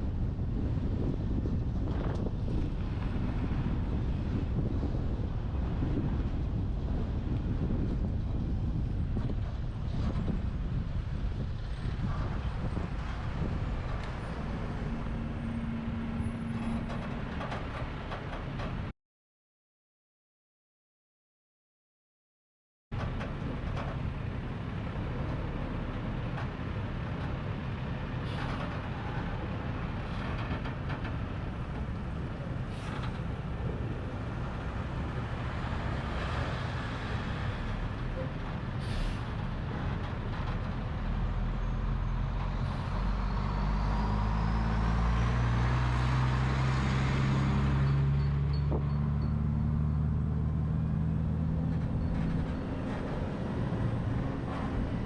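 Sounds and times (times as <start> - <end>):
heavy vehicle engine drone: 0.0 - 18.9, 23.0 - 55.0
road and wind noise: 0.0 - 18.9, 22.9 - 55.0.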